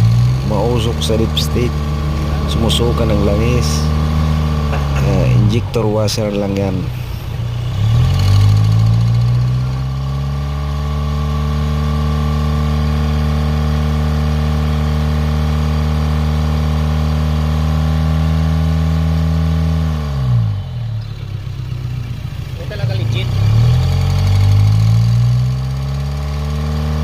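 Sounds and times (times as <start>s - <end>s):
diesel engine revving and idling: 0.0s - 27.0s.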